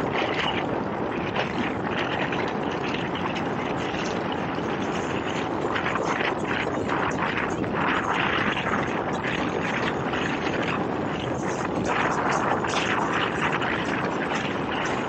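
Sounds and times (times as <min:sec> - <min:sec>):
water rushing along boat hull: 0:00.0 - 0:15.0
wind on microphone: 0:00.0 - 0:15.0.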